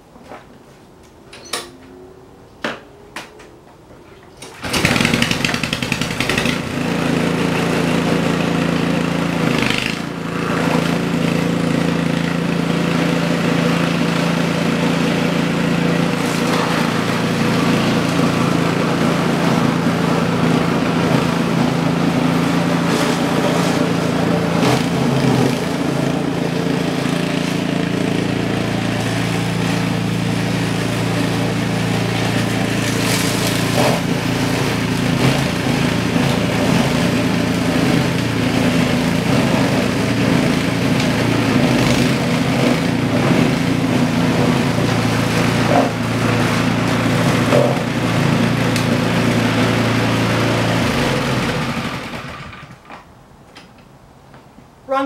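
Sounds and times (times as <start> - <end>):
snowblower engine running: 4.5 - 53.0.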